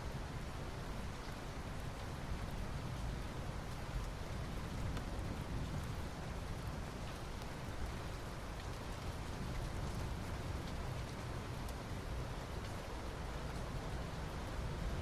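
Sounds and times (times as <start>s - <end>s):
rain falling on asphalt: 0.0s - 15.0s.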